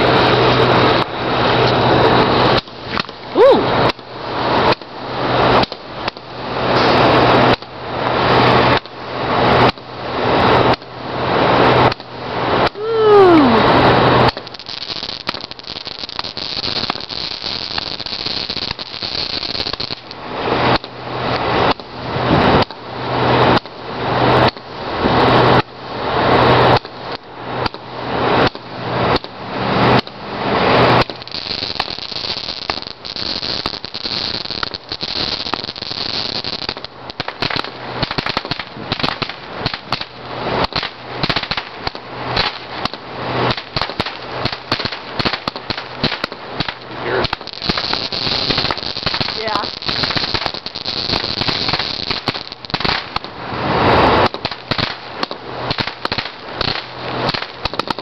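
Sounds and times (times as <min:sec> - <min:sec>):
firework pops and crackles: 0:00.0 - 0:58.0
firework shots: 0:00.0 - 0:58.0.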